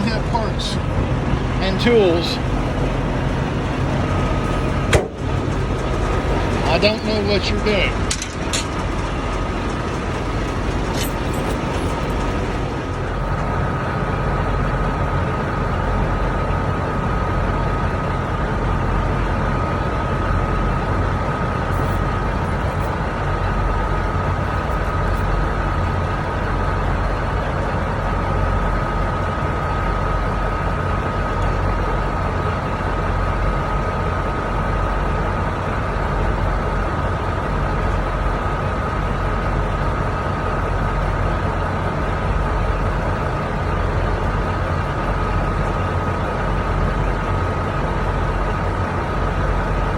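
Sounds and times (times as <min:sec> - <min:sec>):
diesel truck engine idling: 0:00.0 - 0:49.9
thin steady whine: 0:00.0 - 0:49.9.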